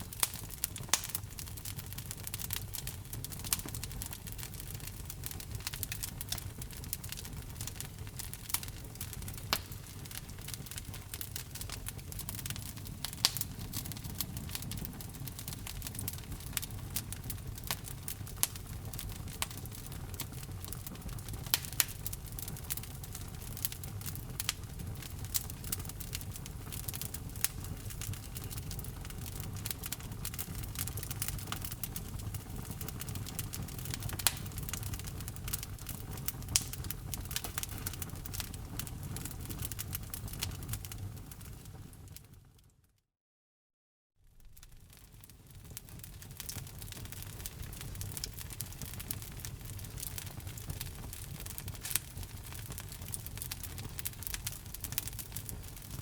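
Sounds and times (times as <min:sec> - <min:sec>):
low rumble of flames: 0:00.0 - 0:42.5, 0:44.3 - 0:56.0
fire crackling and popping: 0:00.0 - 0:42.7, 0:44.3 - 0:56.0.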